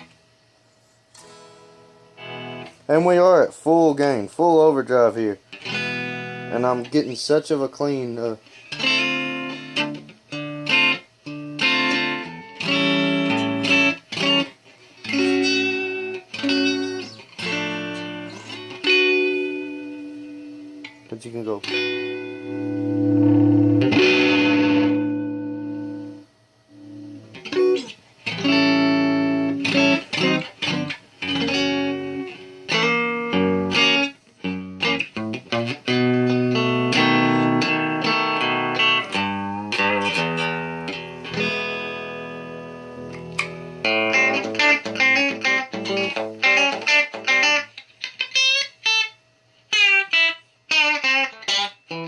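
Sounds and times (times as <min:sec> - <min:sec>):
electric guitar strummed chords: 0:01.1 - 0:03.1, 0:05.4 - 0:07.1, 0:08.0 - 0:52.0.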